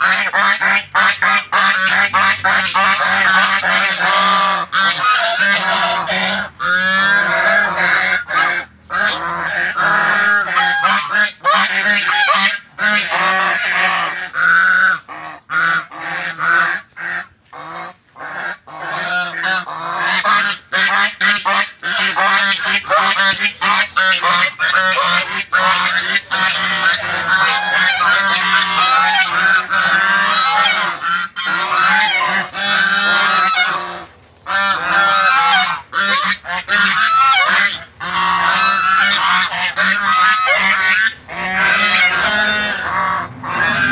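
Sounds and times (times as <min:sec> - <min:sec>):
geese honking: 0:00.0 - 0:43.9.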